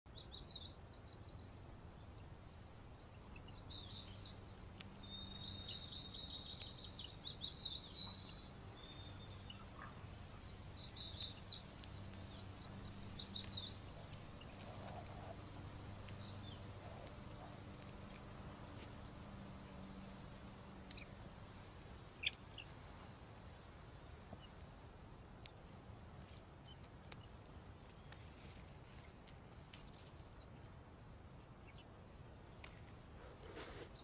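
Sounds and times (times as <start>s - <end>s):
faint birdsong with trill: 0.1s - 30.6s, 31.2s - 34.0s
low steady hum: 0.1s - 34.0s.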